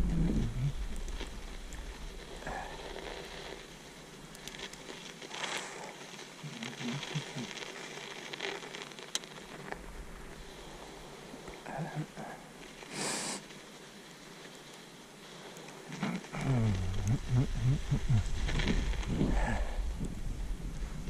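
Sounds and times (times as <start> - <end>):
bicycle tyres crunching through snow: 0.0 - 21.0.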